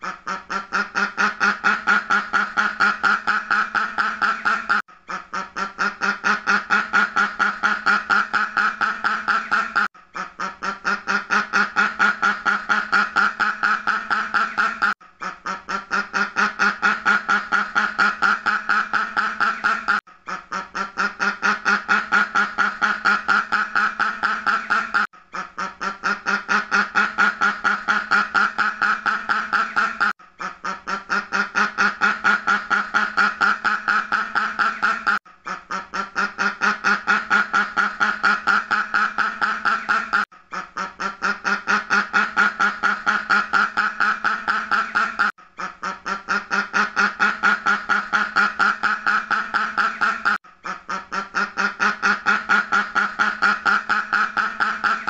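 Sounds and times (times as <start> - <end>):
duck quacking rapidly: 0.0 - 55.0.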